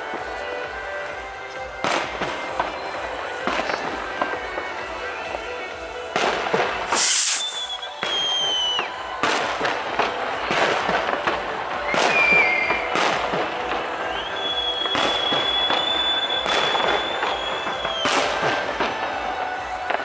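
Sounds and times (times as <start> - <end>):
fireworks bangs: 0.0 - 20.0
fireworks crackling burst: 0.0 - 20.0
high whistling fireworks: 0.0 - 20.0.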